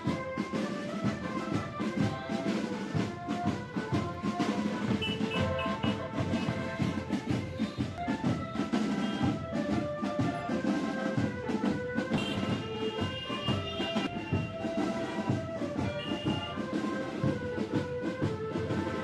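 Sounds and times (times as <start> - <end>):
marching band drums: 0.0 - 19.0.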